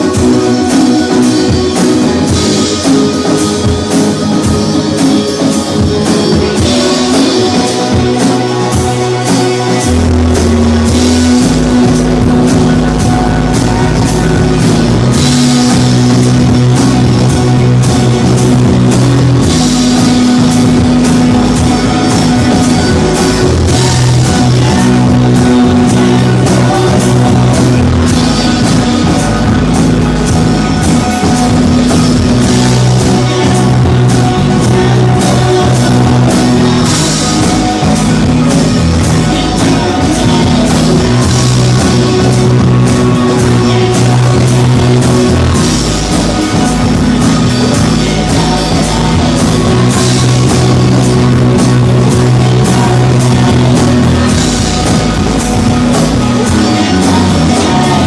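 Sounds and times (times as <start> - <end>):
band playing live: 0.0 - 58.0
low bass notes: 0.0 - 58.0.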